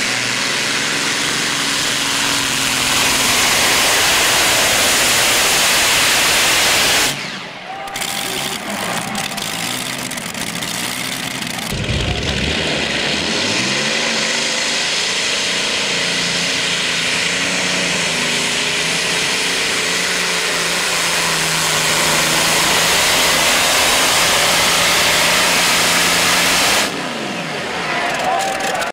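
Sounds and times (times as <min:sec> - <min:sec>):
tractor engine at full throttle: 0:00.0 - 0:28.9.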